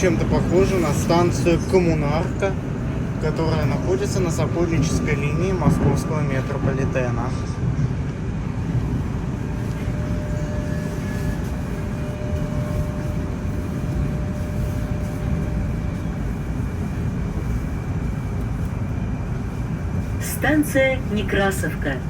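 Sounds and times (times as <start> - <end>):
faint steady whine: 0.0 - 22.0
train wheels and motors rumbling: 0.0 - 22.0.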